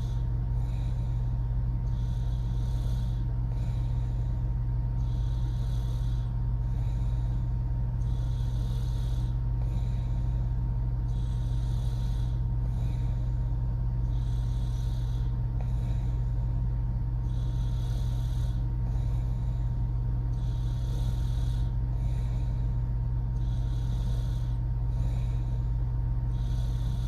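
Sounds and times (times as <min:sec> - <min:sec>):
woman snoring: 0:00.0 - 0:04.3, 0:05.0 - 0:13.4, 0:14.0 - 0:16.3, 0:17.2 - 0:22.7, 0:23.4 - 0:25.7, 0:26.3 - 0:27.0
steady low hum: 0:00.0 - 0:27.0.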